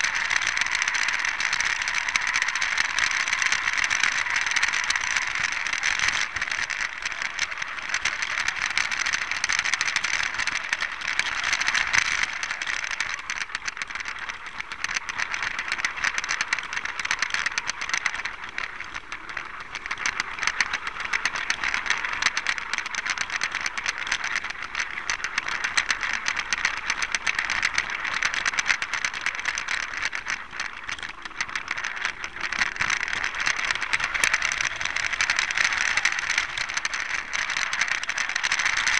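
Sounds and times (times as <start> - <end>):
toy train wheels rattling: 0.0 - 38.9.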